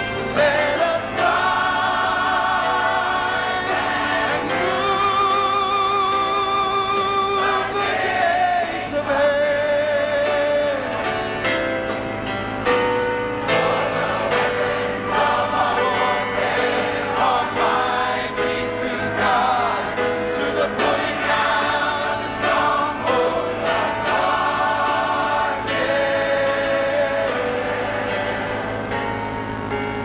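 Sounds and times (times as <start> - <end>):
choir singing in harmony: 0.0 - 29.8.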